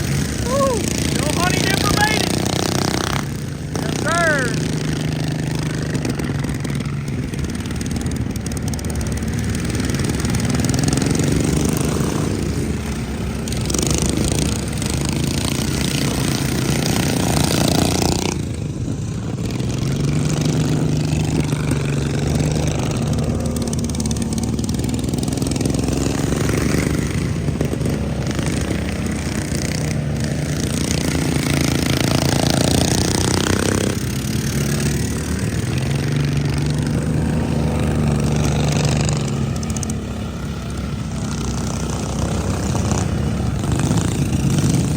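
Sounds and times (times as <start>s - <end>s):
lawn mower engines racing: 0.0s - 44.9s.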